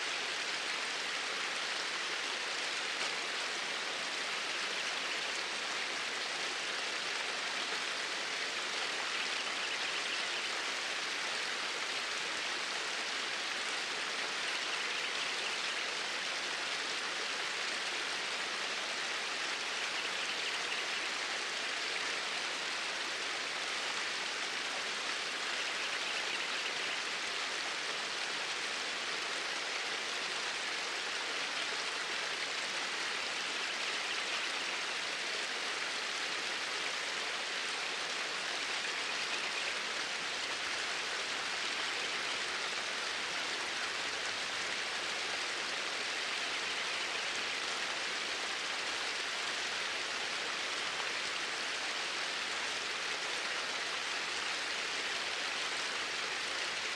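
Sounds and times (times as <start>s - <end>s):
stream water flowing: 0.0s - 56.9s.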